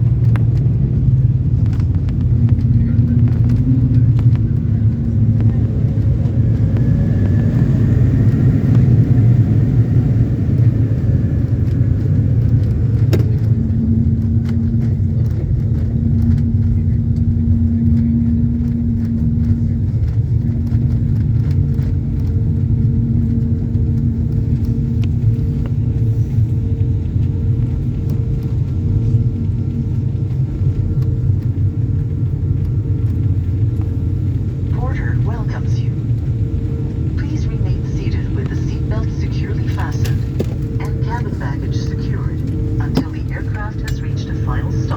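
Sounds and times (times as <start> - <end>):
airliner cabin rumble: 0.0 - 44.9
steady cabin hum: 0.0 - 44.9.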